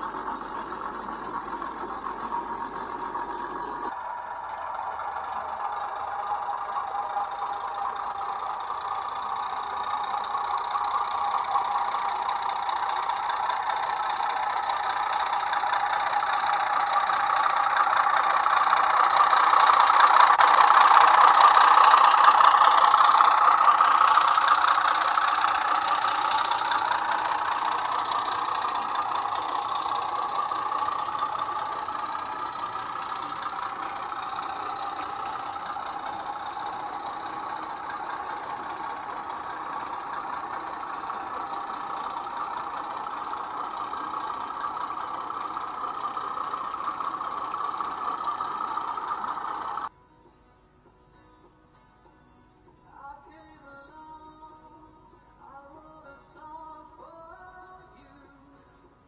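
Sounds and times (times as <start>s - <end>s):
model locomotive diesel engine: 0.0s - 59.0s.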